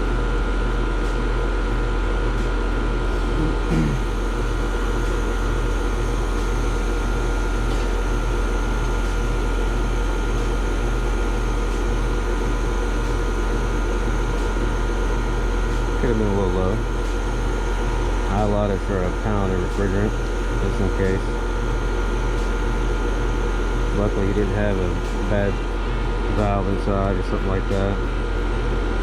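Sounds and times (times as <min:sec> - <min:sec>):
air conditioner humming: 0:00.0 - 0:29.0.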